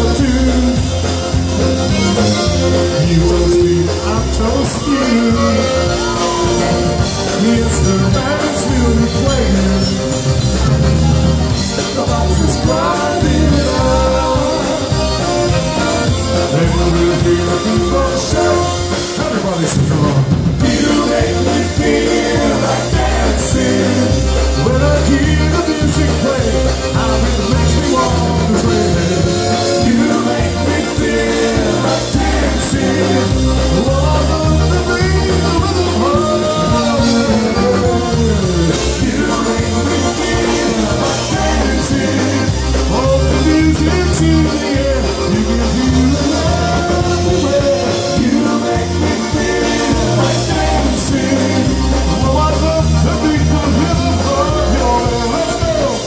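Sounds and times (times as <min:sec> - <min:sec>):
accordion: 0:00.0 - 0:56.0
concertina: 0:00.0 - 0:56.0
drum kit: 0:00.0 - 0:56.0
electric bass guitar: 0:00.0 - 0:56.0
man singing: 0:00.0 - 0:56.0.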